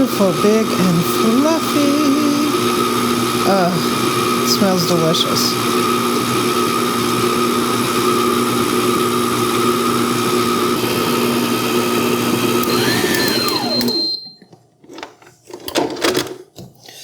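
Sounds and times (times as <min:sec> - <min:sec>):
stand mixer motor humming: 0:00.0 - 0:14.3
mixer winding down whine: 0:00.0 - 0:14.4.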